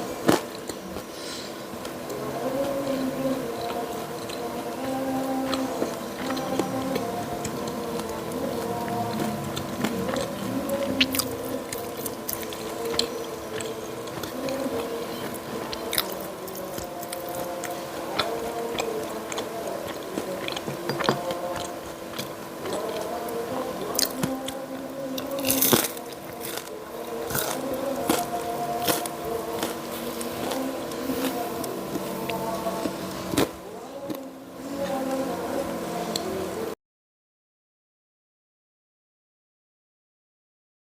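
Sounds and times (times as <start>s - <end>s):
chewing and crunching crispy pastries: 0.0s - 36.5s.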